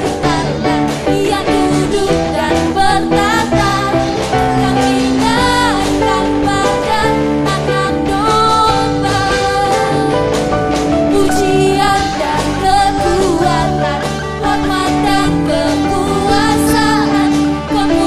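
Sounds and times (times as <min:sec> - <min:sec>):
drums: 0:00.0 - 0:18.0
guitar: 0:00.0 - 0:18.0
person singing: 0:00.0 - 0:18.0
worship band playing: 0:00.0 - 0:18.0.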